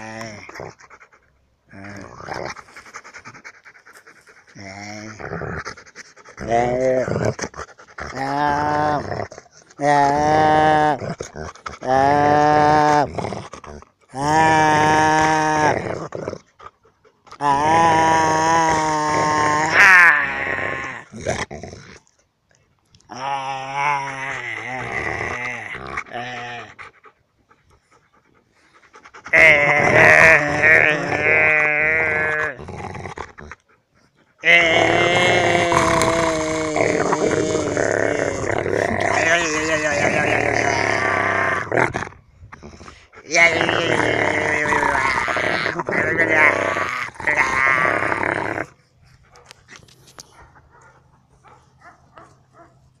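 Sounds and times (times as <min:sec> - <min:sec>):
dog howling and moaning: 0:00.0 - 0:13.2, 0:14.1 - 0:21.4, 0:23.1 - 0:32.6, 0:33.3 - 0:52.7.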